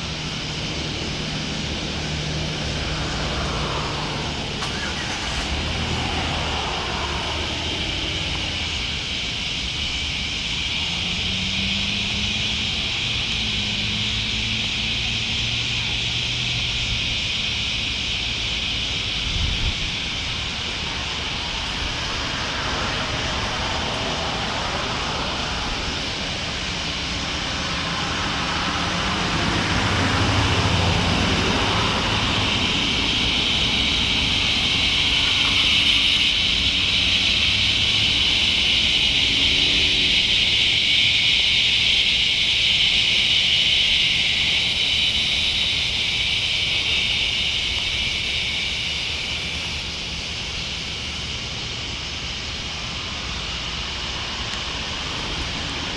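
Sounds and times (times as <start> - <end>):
cicadas buzzing: 0.0 - 55.9
passing engine drone: 0.0 - 55.9.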